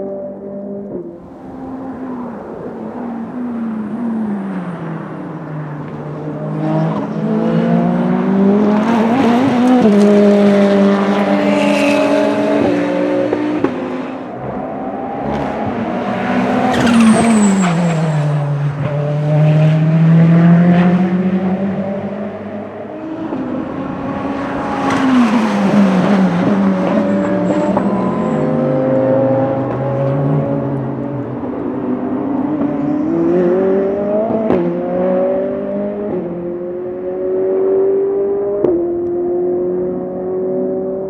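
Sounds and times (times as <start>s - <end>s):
race car engine through gears: 0.0s - 41.0s.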